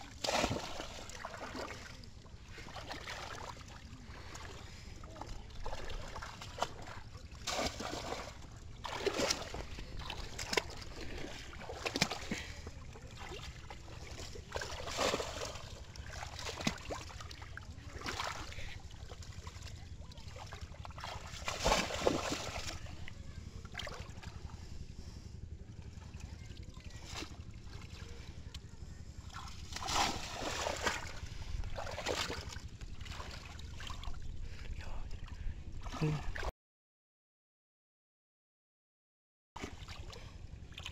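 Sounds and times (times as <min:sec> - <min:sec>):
water splashing and sloshing: 0:00.0 - 0:24.8, 0:25.8 - 0:36.5, 0:39.6 - 0:40.9
steady low rumble: 0:00.0 - 0:36.5.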